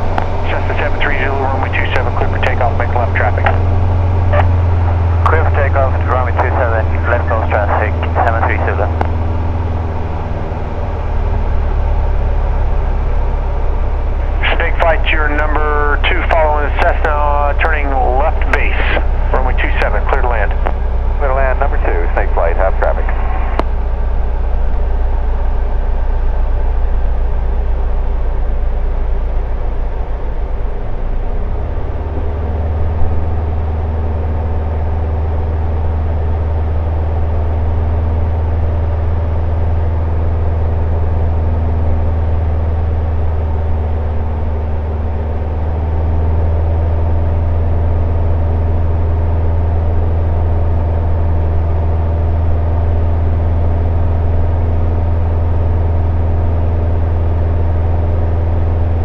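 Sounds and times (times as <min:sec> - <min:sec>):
propeller aircraft engine droning: 0:00.0 - 0:59.0.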